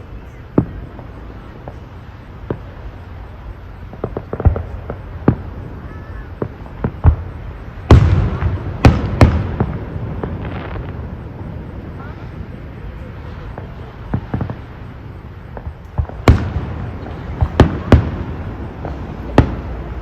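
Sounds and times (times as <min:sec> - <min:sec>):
firework crackling: 0:00.0 - 0:20.0
fireworks bangs: 0:00.0 - 0:20.0
loud firework booms: 0:00.2 - 0:20.0.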